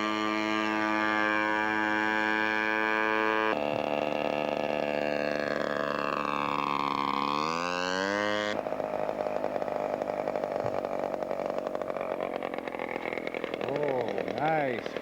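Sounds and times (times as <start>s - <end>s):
model plane engine buzzing: 0.0s - 15.0s.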